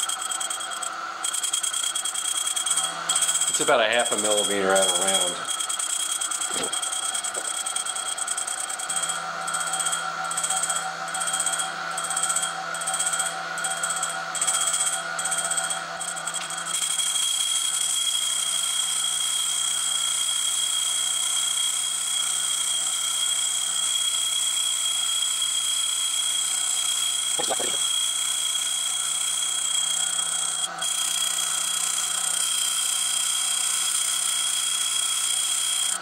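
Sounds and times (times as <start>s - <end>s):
grinding wheel grinding metal: 0.0s - 36.0s
high motor whine: 0.0s - 36.0s.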